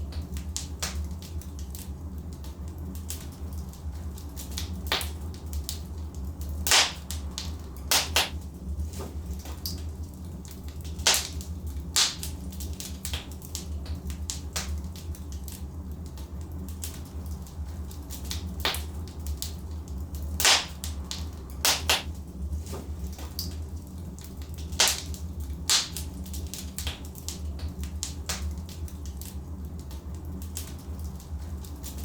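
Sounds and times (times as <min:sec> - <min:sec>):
logs crackling and popping: 0:00.0 - 0:32.0
steady low rumble: 0:00.0 - 0:32.0.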